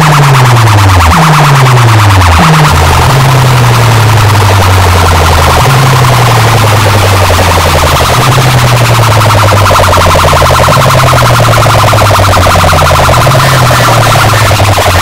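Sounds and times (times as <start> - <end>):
heavy bass line: 0.0 - 15.0
siren-like warble: 0.0 - 15.0.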